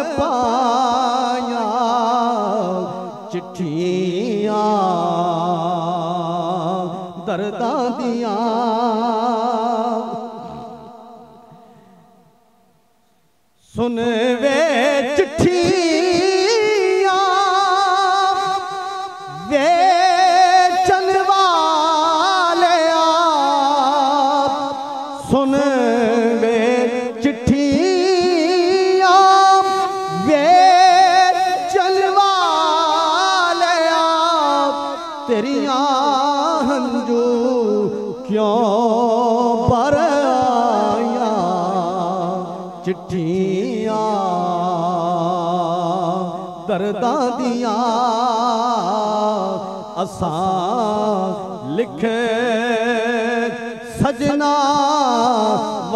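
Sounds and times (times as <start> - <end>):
man singing into a microphone: 0.0 - 12.4, 13.6 - 55.9.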